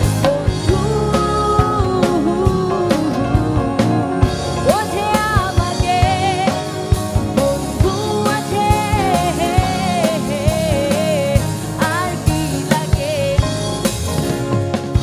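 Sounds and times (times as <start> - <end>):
person singing: 0.0 - 13.6
drum kit steady beat: 0.0 - 15.0
pop song instruments: 0.0 - 15.0.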